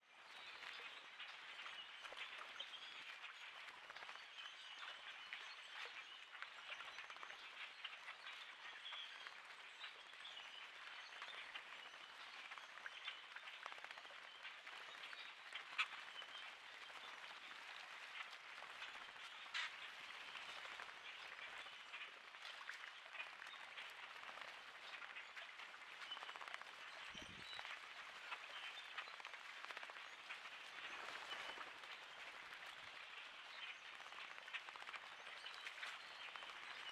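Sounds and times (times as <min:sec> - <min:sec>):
flock of birds chattering: 0:00.2 - 0:36.9
birds splashing in water: 0:00.4 - 0:36.9.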